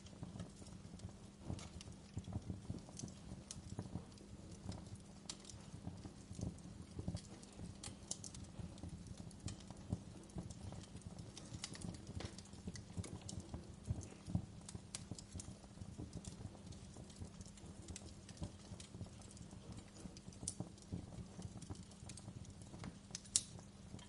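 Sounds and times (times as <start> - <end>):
fire crackling and popping: 0.0 - 24.0
fire flames rumbling: 0.0 - 24.0.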